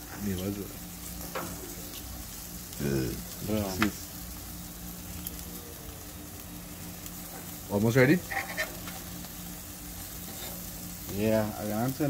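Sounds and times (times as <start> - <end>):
low steady hum: 0.0 - 12.0
meat sizzling on a grill: 0.0 - 12.0.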